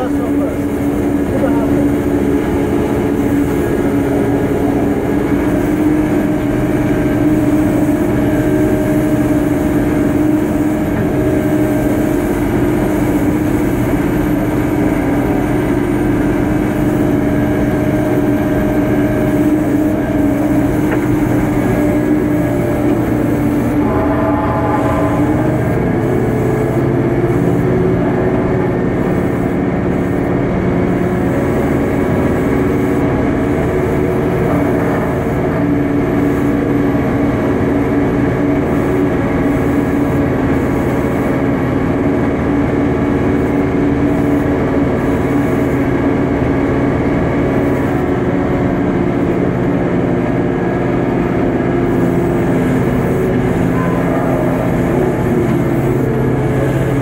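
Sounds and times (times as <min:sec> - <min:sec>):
steady mechanical drone: 0:00.0 - 0:57.0.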